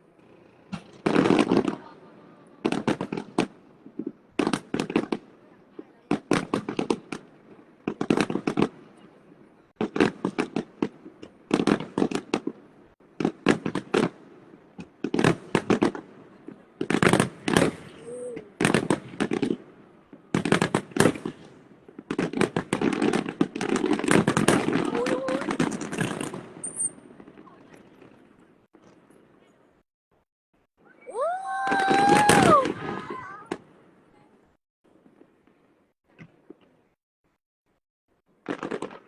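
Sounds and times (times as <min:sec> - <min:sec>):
fireworks banging and crackling: 0:00.0 - 0:29.8, 0:31.1 - 0:37.0, 0:38.2 - 0:39.0.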